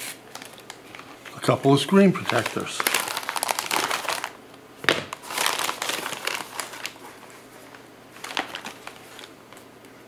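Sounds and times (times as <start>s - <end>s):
paper envelope crinkling: 0.0s - 9.7s.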